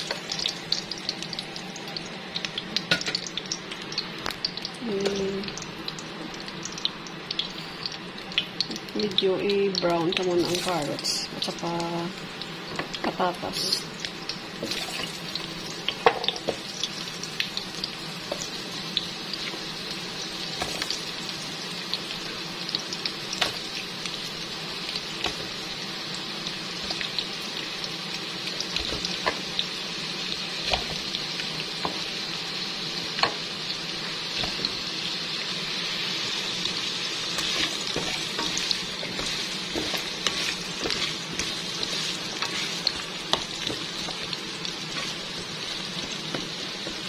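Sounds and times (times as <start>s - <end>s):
vegetable slices sizzling in oil: 0.0s - 47.0s.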